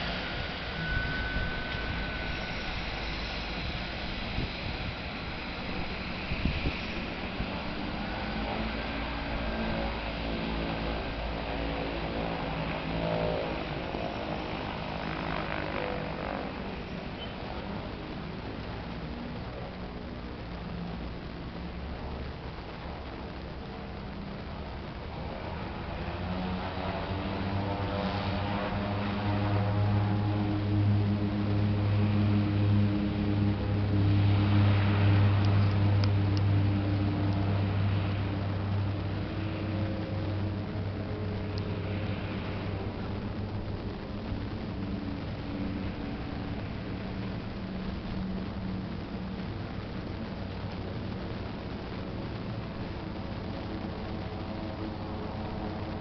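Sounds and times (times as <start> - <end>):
floatplane engines droning: 0.0 - 56.0.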